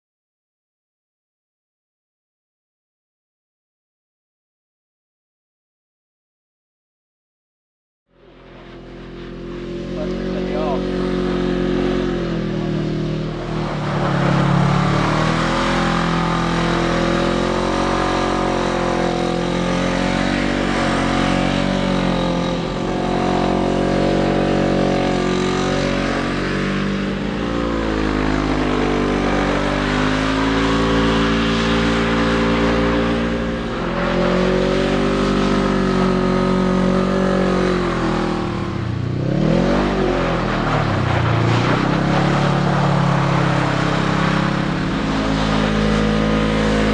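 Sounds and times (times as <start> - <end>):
engine revving hard: 8.8 - 46.9.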